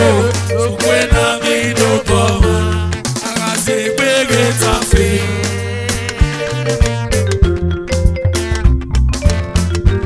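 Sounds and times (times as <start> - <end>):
instrumental dance-band music: 0.0 - 10.0.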